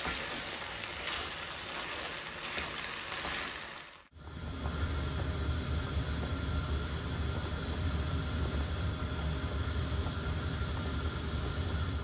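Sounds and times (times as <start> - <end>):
water boiling in saucepan: 0.0 - 12.0.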